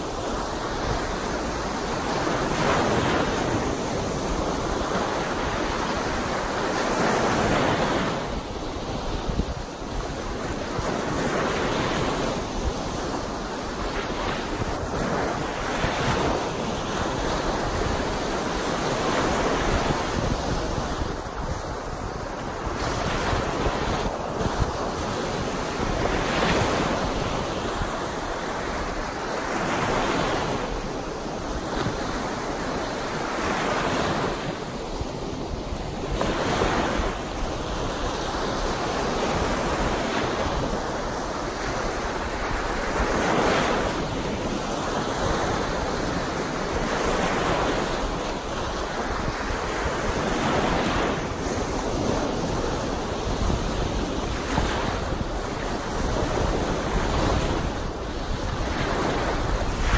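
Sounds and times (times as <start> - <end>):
waves washing on sandy shore: 0.0 - 59.9.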